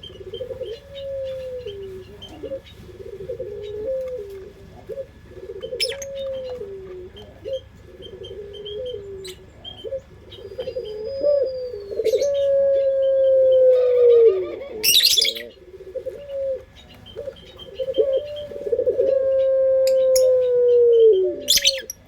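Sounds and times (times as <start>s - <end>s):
dove cooing: 0.0s - 22.0s
small birds chirping: 0.0s - 22.0s.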